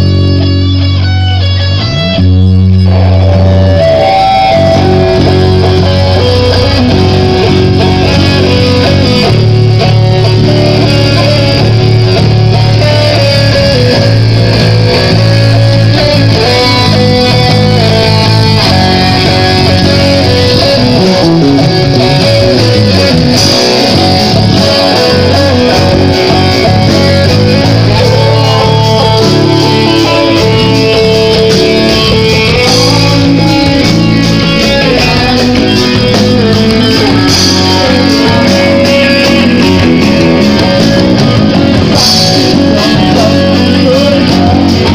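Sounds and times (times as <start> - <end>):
guitar-led background music: 0.0 - 44.9.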